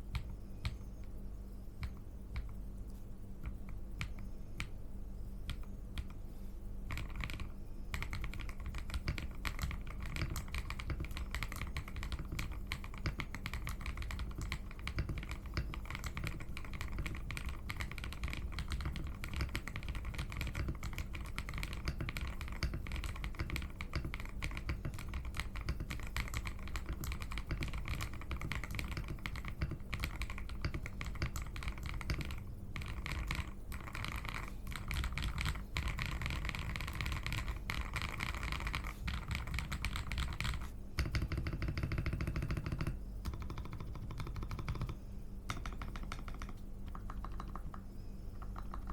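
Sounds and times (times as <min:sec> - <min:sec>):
mechanical keyboard typing: 0:06.9 - 0:47.8, 0:48.4 - 0:48.9.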